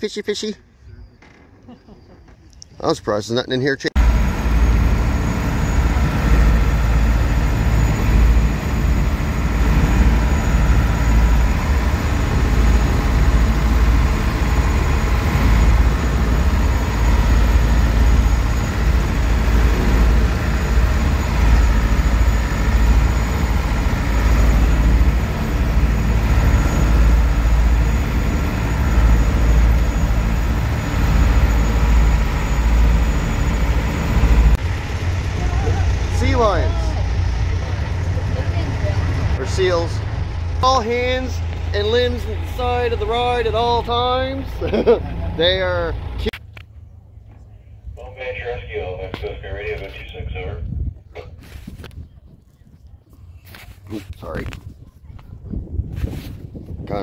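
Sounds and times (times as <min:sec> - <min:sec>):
boat engine rumbling: 0:00.0 - 0:57.0.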